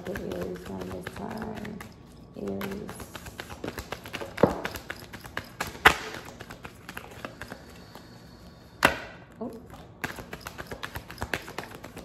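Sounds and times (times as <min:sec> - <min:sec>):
cards being shuffled: 0:00.0 - 0:07.7, 0:09.8 - 0:12.0.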